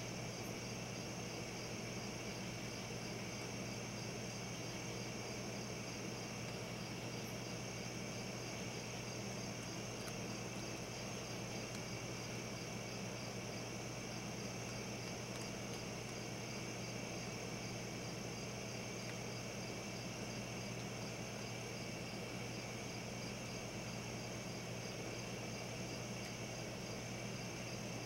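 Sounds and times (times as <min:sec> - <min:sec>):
low steady hum: 0:00.0 - 0:28.0
night insects chorus: 0:00.0 - 0:28.0.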